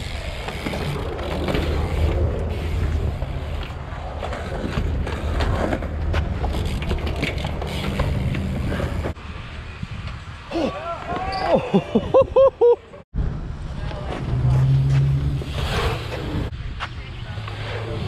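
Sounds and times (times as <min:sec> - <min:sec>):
wheels rolling on concrete: 0:00.0 - 0:11.5, 0:13.7 - 0:18.0.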